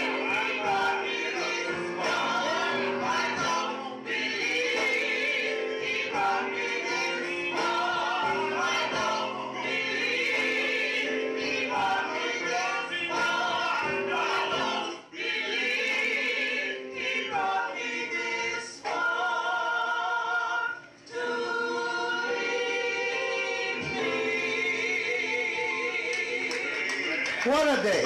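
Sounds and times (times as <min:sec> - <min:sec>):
church choir singing: 0:00.0 - 0:27.5.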